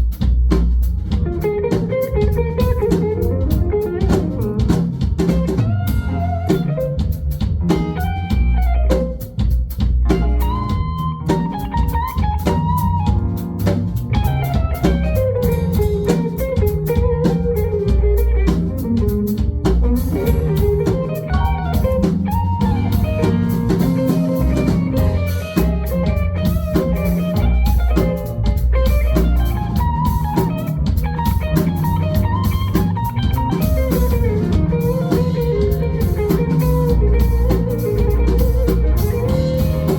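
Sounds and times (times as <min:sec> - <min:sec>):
drum kit groove: 0:00.0 - 0:39.9
guitar melodic lead: 0:01.1 - 0:09.4, 0:10.0 - 0:39.9.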